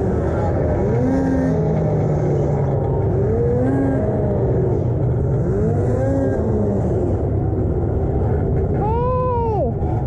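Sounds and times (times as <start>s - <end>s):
snowmobile engine revving: 0.0s - 8.4s.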